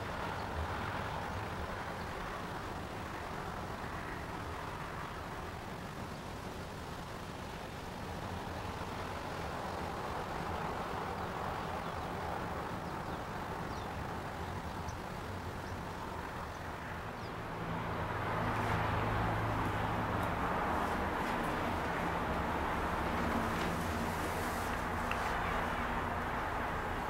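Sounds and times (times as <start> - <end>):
distant city traffic: 0.0 - 27.0.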